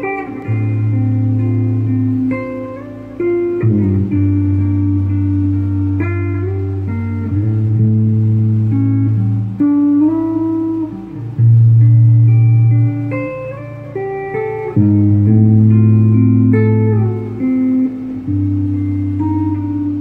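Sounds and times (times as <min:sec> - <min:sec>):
electric guitar picked notes: 0:00.0 - 0:20.0.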